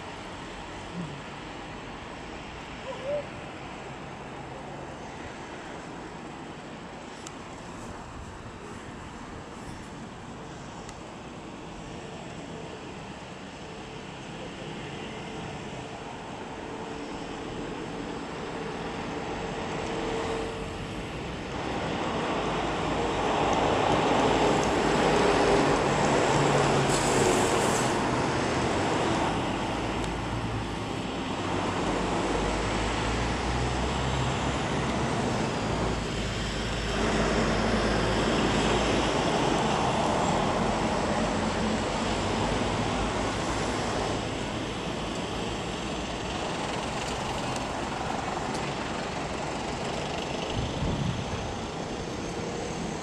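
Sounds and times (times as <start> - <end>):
low traffic rumble: 0.0 - 53.0
vehicles passing by: 0.0 - 53.0.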